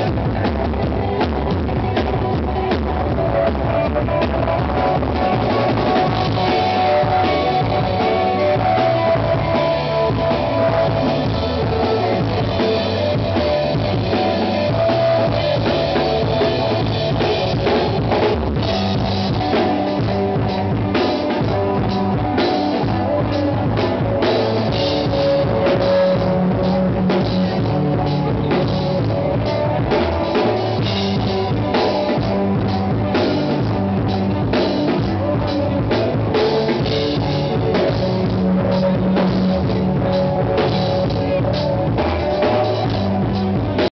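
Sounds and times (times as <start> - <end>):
drum kit beat: 0.0 - 43.9
electric guitars: 0.0 - 43.9.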